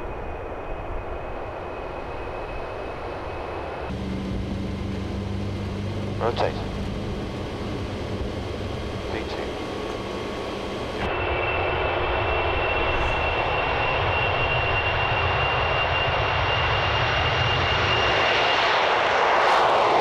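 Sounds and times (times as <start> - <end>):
high whine: 0.0 - 20.0
jet engines at take-off: 0.0 - 20.0.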